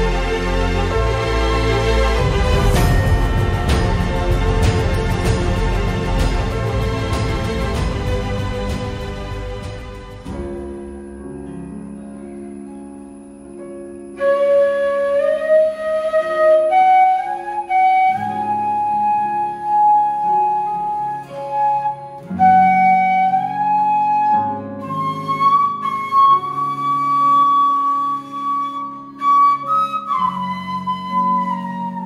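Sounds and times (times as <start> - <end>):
flute melody: 0.0 - 32.0
keyboard chords: 0.0 - 32.0.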